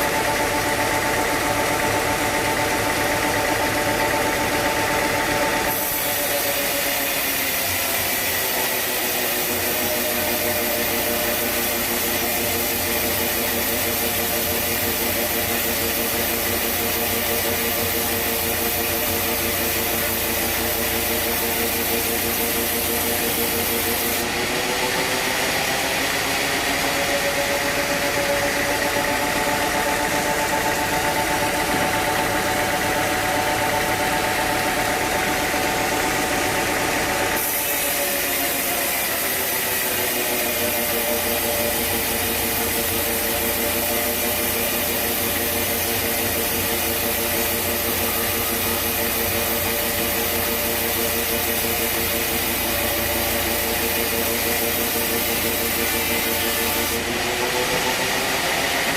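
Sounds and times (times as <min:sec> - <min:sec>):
engine-driven saw humming: 0:00.0 - 0:58.9.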